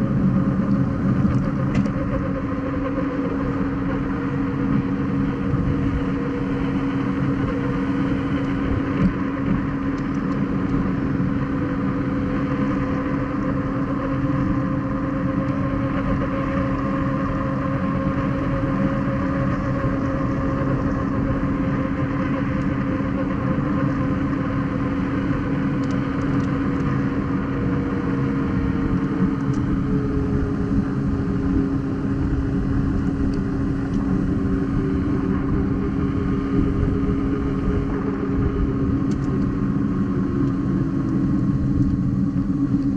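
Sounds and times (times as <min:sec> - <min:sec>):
electric motor whine: 0:00.0 - 0:42.9.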